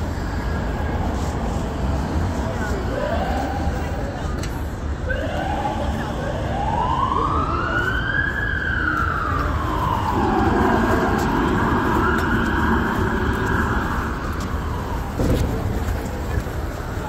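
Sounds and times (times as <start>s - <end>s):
city traffic rumble: 0.0s - 17.0s
emergency siren wailing: 2.4s - 4.2s, 4.9s - 17.0s.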